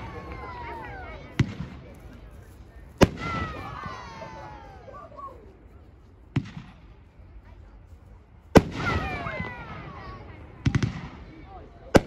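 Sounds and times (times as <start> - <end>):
firework report: 0.0 - 7.4, 8.4 - 12.0.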